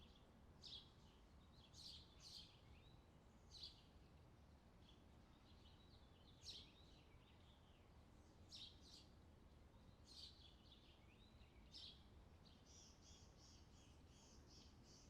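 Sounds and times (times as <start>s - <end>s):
faint songbird chirping: 0.0s - 15.0s
low steady background hiss: 0.0s - 15.0s.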